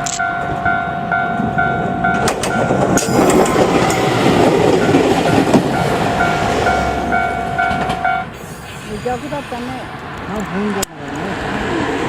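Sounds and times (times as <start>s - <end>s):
crossing warning bell ringing: 0.0s - 9.7s
train wheels clicking over rail joints: 0.0s - 11.7s.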